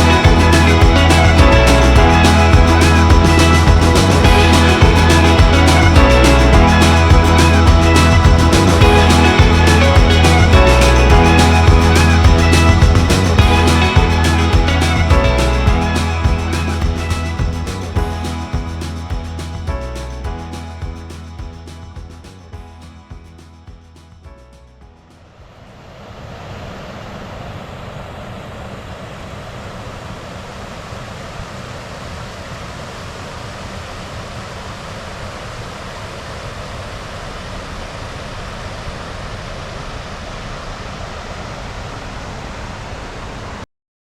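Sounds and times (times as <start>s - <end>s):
rushing water: 0.0s - 22.1s, 25.3s - 43.6s.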